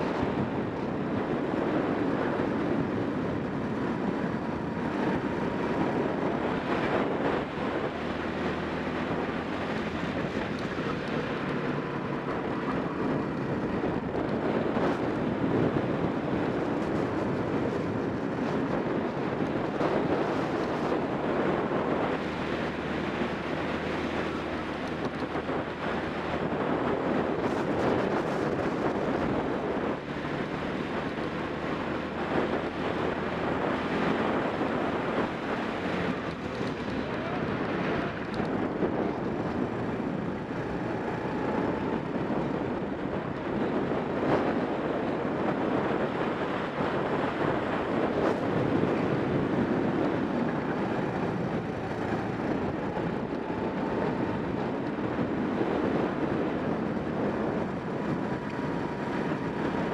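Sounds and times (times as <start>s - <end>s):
kart engine running: 0.0s - 59.9s
wind noise on microphone: 0.0s - 59.9s.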